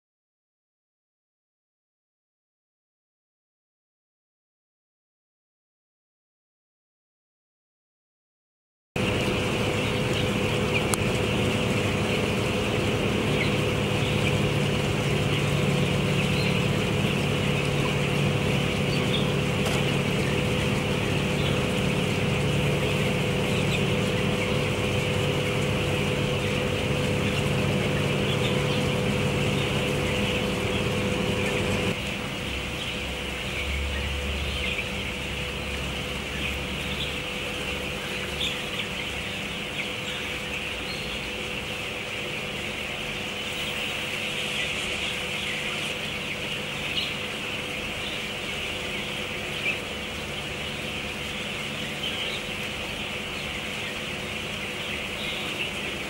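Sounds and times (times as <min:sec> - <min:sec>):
chicks peeping: 0:09.0 - 0:56.0
ventilation fans humming: 0:09.0 - 0:56.0.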